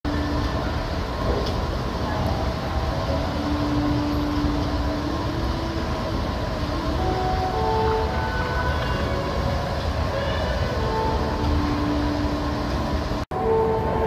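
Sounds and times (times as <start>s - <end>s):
escalator mechanical hum: 0.1s - 14.0s
faint steady tones: 0.1s - 14.0s.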